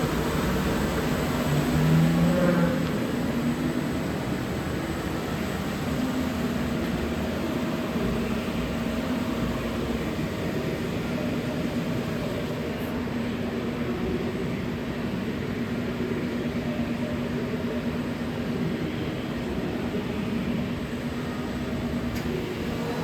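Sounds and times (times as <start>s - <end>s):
lathe mechanical hum: 0.0s - 23.0s.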